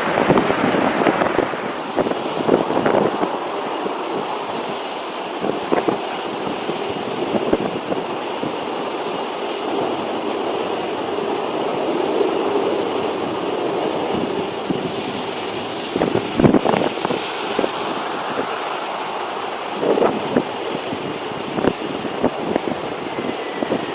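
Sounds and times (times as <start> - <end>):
jet engines roaring: 0.0 - 23.9
wind buffeting microphone: 0.0 - 23.9.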